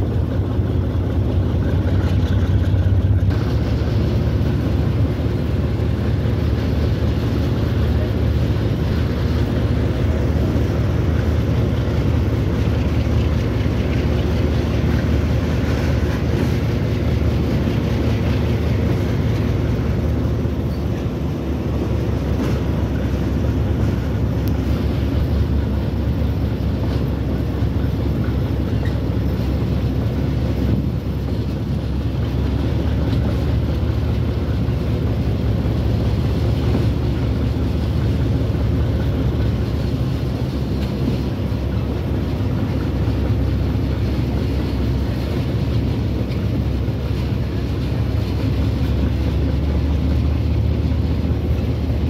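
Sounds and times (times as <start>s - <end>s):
diesel train drone and rumble: 0.0s - 52.0s.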